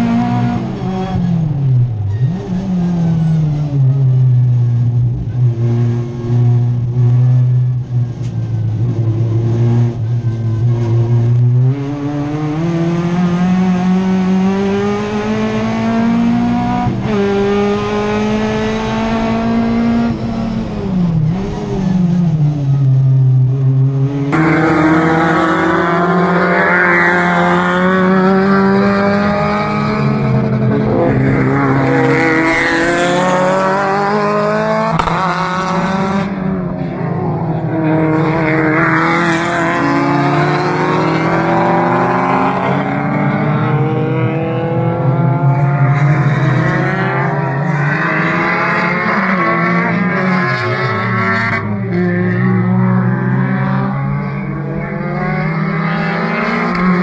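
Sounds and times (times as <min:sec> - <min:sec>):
race car engine from cockpit: 0:00.0 - 0:57.0
race cars running past: 0:00.0 - 0:57.0.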